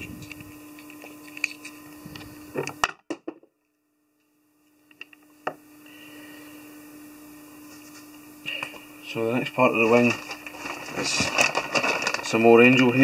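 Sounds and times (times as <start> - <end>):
steady low hum: 0.0 - 3.0, 3.8 - 13.0.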